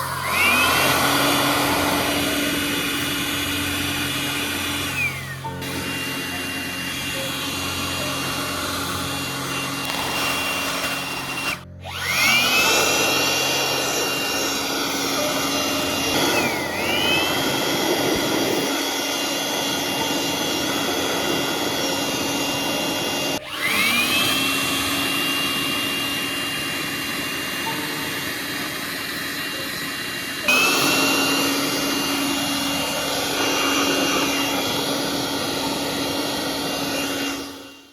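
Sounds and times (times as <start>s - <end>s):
air blower motor whine: 0.0s - 37.9s.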